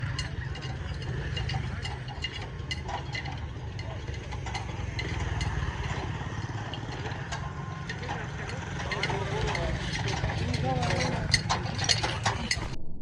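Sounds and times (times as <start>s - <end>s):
engine idling: 0.0s - 12.8s.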